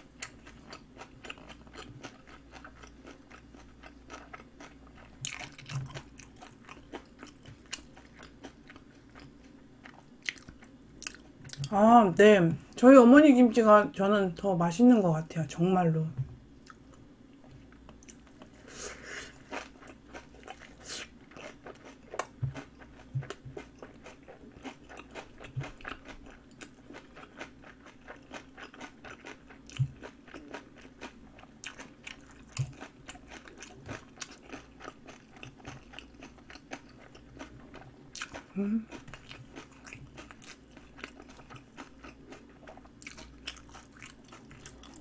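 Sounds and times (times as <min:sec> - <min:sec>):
wet crunchy chewing: 0:00.2 - 0:11.7, 0:19.3 - 0:45.0.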